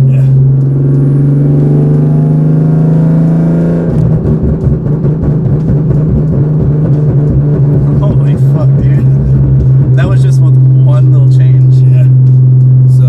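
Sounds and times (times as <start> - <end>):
car engine running under load: 0.0 - 13.0
exhaust crackling and popping: 0.0 - 13.0.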